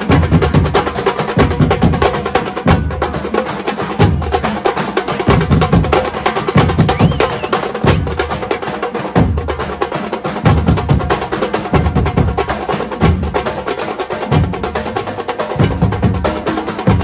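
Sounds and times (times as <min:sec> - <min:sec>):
drum ensemble playing: 0:00.0 - 0:17.0.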